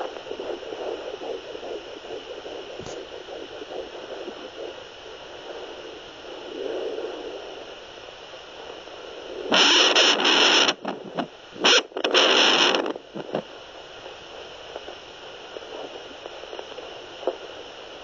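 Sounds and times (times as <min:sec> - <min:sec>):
crackling static bursts: 0:00.0 - 0:18.0
steady speaker hiss: 0:00.0 - 0:18.0.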